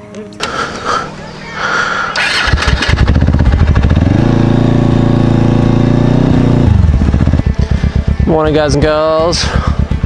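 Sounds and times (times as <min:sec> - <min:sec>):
motorcycle engine revving: 0:01.6 - 0:10.0.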